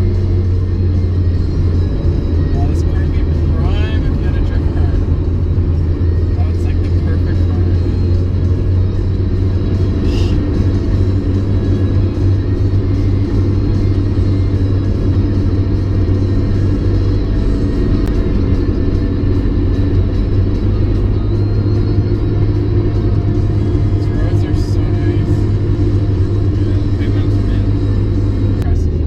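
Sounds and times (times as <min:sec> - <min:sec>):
car engine and tyres droning: 0:00.0 - 0:29.0
music playing: 0:00.0 - 0:29.0.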